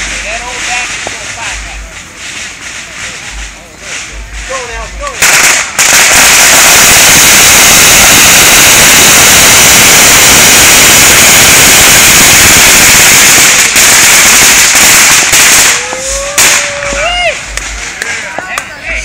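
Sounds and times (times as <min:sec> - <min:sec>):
firecrackers barrage: 0:00.0 - 0:19.0.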